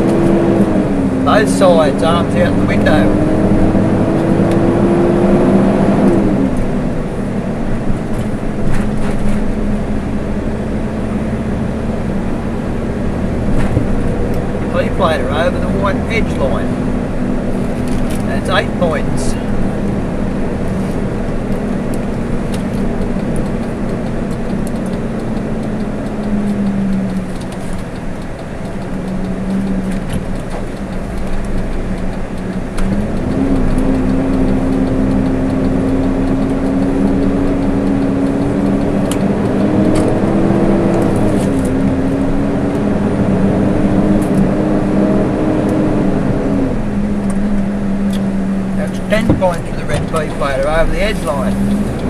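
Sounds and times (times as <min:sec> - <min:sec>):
road rumble: 0:00.0 - 0:52.0
vehicle engine hum: 0:00.0 - 0:52.0.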